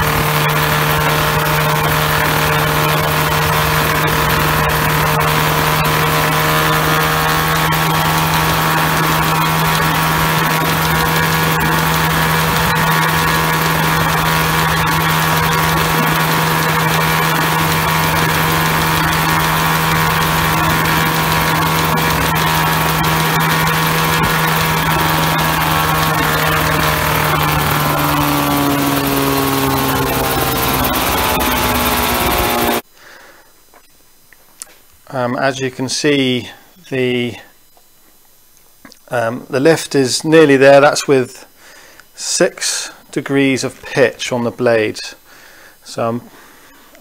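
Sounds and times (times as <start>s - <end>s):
model helicopter engine and rotors: 0.0s - 32.9s, 39.1s - 47.0s.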